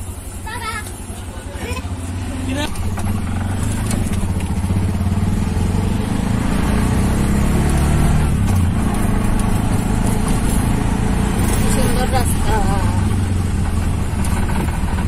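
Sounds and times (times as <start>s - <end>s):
road rumble: 0.0s - 15.0s
small vehicle engine running: 0.0s - 15.0s.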